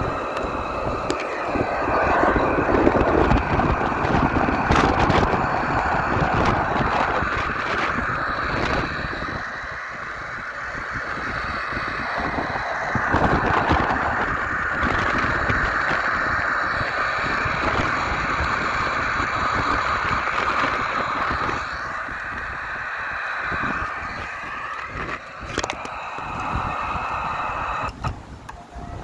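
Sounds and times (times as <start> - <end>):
gusty wind buffeting microphone: 0.0 - 29.0
steady rough hiss: 0.0 - 29.0.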